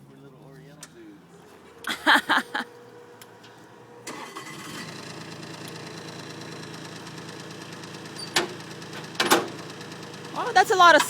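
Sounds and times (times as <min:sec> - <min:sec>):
loader engine running: 0:01.2 - 0:11.0.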